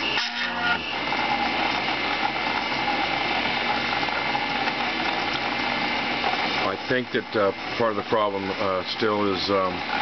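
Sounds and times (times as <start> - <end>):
coil winder mechanical whir: 0.0 - 10.0
steady machine whine: 0.0 - 10.0.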